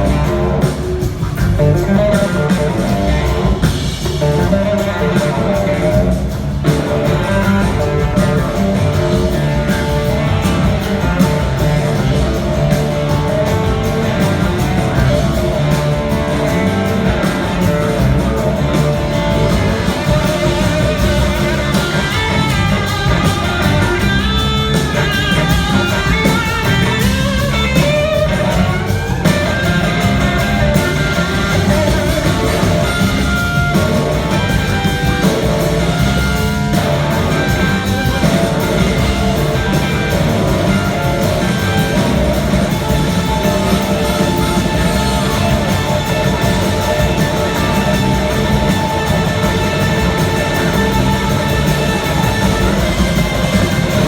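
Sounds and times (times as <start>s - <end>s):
blues-rock band playing: 0.0s - 54.0s
lead guitar line: 0.0s - 54.0s.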